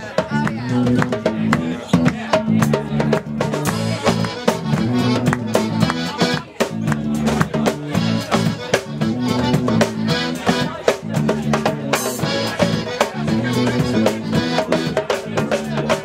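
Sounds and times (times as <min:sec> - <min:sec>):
drum kit beat: 0:00.0 - 0:16.0
guitar: 0:00.0 - 0:16.0
tuba bass line: 0:00.0 - 0:16.0.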